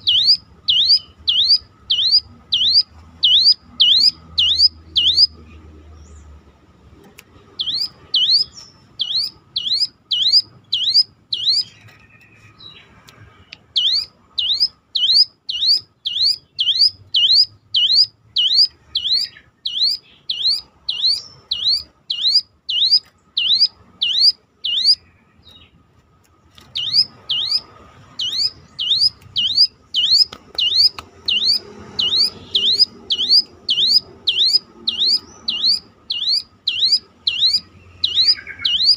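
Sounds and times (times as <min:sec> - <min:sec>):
bird siren-like whistled call: 0:00.0 - 0:05.3, 0:07.6 - 0:11.7, 0:13.8 - 0:25.1, 0:26.8 - 0:38.9.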